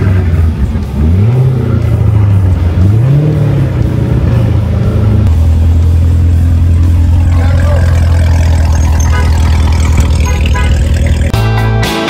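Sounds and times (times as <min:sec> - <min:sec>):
car engine revving and idling: 0:00.0 - 0:11.4.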